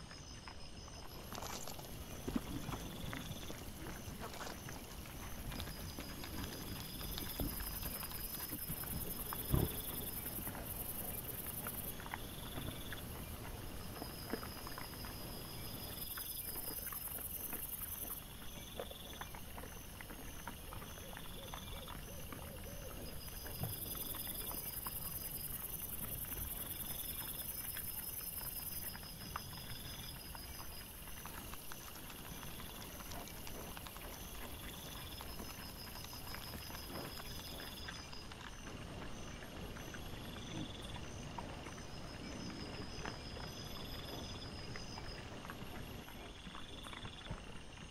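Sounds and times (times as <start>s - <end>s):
boar rooting and chewing: 0.0s - 47.9s.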